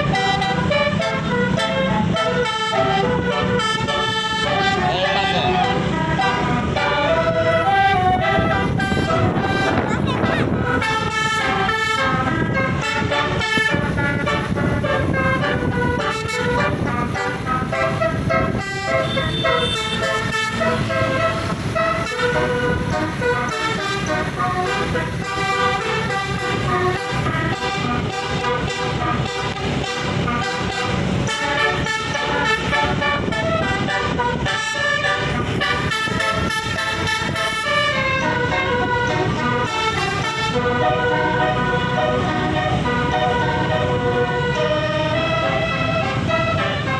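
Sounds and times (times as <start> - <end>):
bus trumpet horns playing tune: 0.0 - 46.9.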